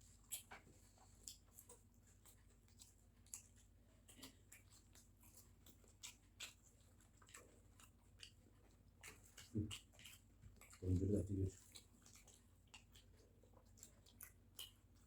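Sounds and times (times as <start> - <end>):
chewing crisp fried food: 0.0 - 15.0.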